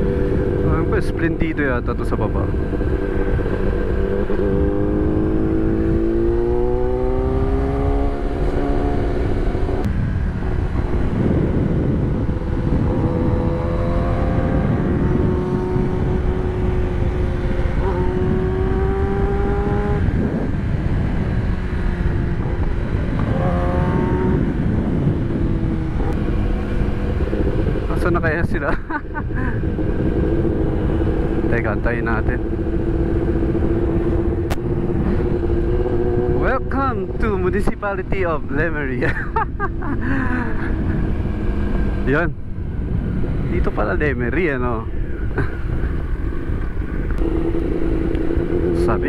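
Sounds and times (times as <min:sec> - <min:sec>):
motorcycle engine revving: 0:00.0 - 0:49.0
wind rush on microphone: 0:00.0 - 0:49.0.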